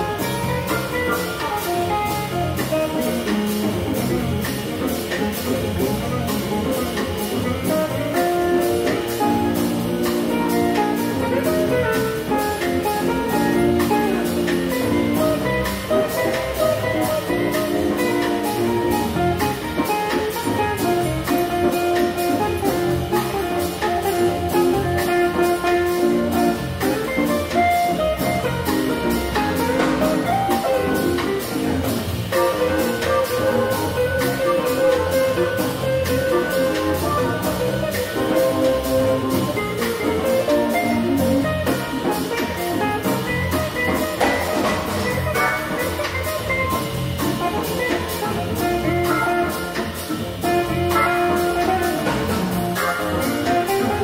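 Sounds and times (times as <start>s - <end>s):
big band jazz: 0.0s - 54.0s
drum kit cymbal beat: 0.0s - 54.0s.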